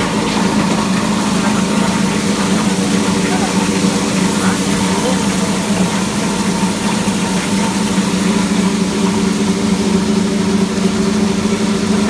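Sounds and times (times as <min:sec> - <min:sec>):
granulator motor hum: 0:00.0 - 0:12.0.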